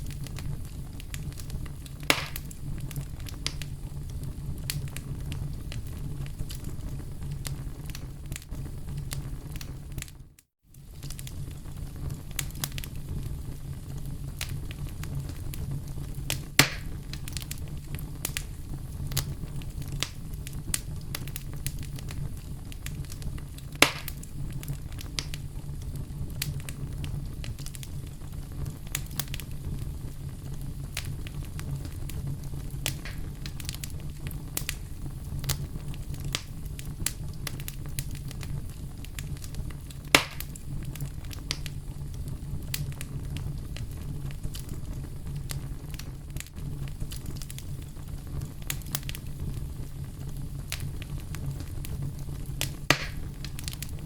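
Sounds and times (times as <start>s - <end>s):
campfire crackling: 0.0s - 54.0s
loud sharp pops of fire: 0.0s - 54.0s.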